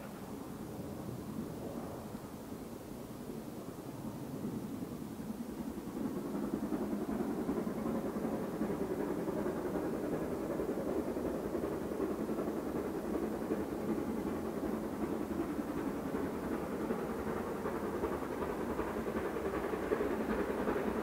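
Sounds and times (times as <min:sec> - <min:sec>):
distant train engine rumble: 0:00.0 - 0:21.0.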